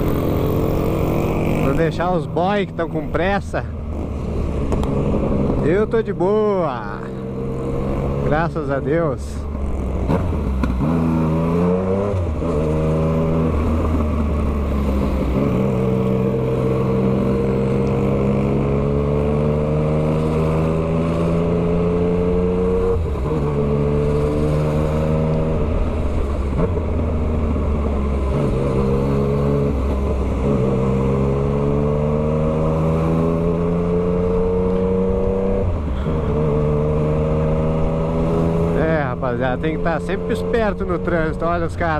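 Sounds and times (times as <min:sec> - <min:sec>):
motorcycle engine revving through gears: 0:00.0 - 0:41.9.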